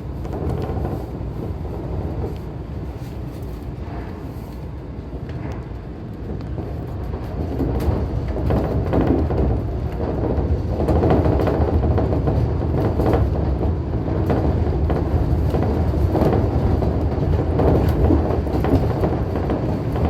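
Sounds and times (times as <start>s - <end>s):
monorail car running noise: 0.0s - 20.0s.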